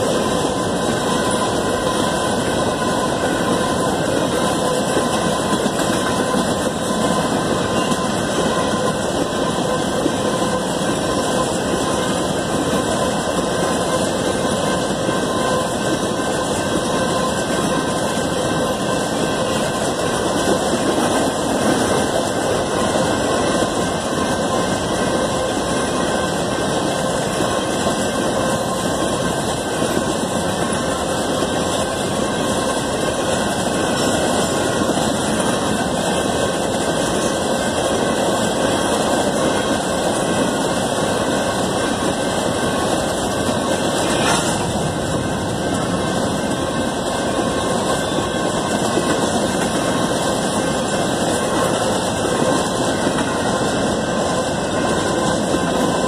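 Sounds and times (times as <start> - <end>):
steel wheels running on rails: 0.0 - 56.0.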